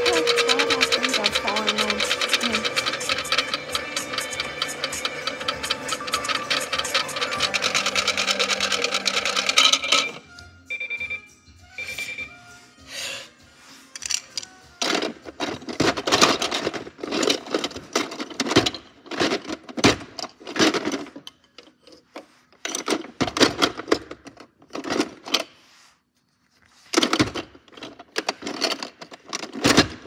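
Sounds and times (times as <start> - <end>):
plastic toy bricks clattering: 0.0 - 10.2, 14.0 - 25.6, 26.8 - 30.0.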